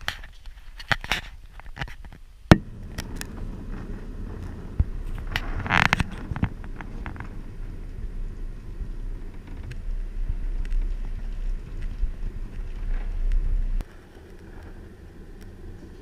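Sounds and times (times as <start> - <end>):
wind buffeting microphone: 1.2 - 16.0.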